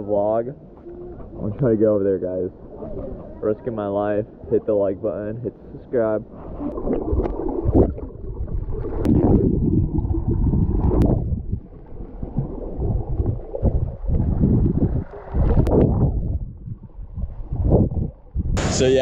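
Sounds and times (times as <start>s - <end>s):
muffled underwater water rumble: 0.0s - 19.0s.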